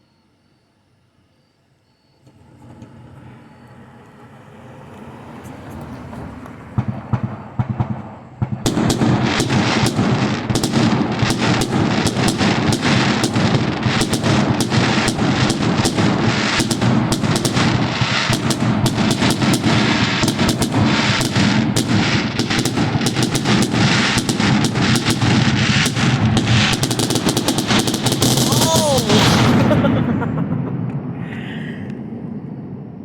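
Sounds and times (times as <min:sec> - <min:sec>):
fireworks bangs and crackles: 0:02.2 - 0:33.0.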